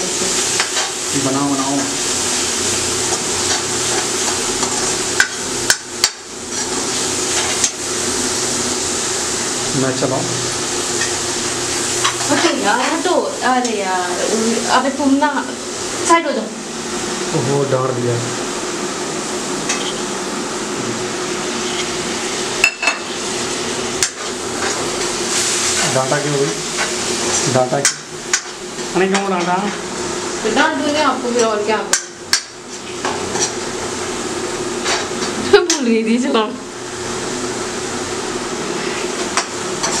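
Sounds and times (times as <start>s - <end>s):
paste sizzling in oil: 0.0s - 35.9s.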